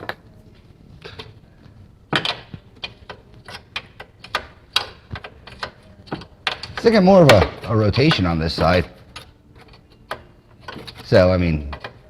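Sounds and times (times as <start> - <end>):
metallic clicks and clanks: 2.1 - 12.0.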